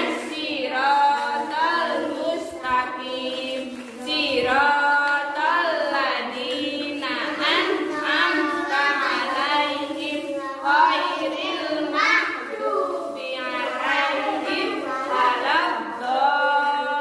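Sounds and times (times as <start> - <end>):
woman and children singing: 0.0 - 17.0.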